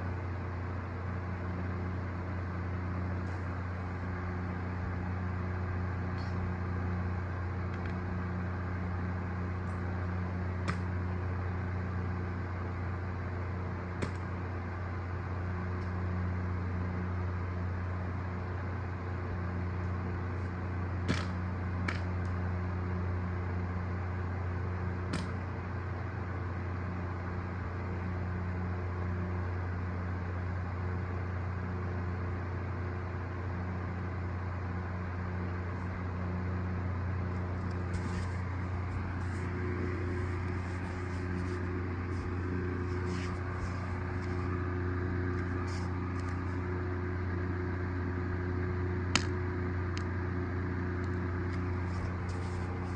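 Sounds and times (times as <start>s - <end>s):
low machine hum: 0.0s - 52.9s.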